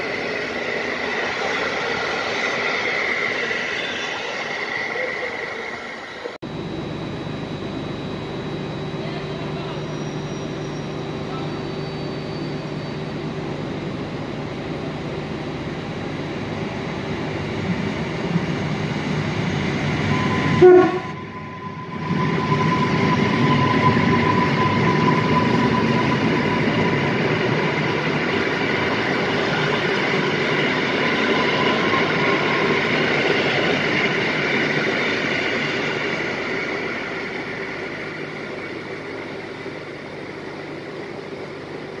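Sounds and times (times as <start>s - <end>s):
electric train running with whine: 0.0s - 42.0s.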